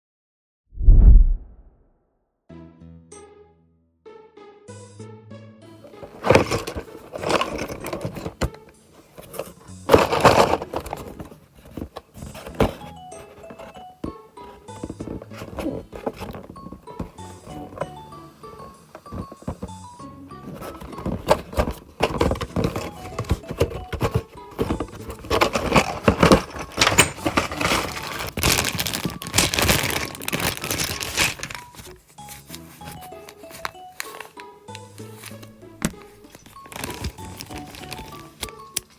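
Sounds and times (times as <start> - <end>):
light background music: 2.5 - 38.9
packaging rustling and handling: 5.8 - 38.9.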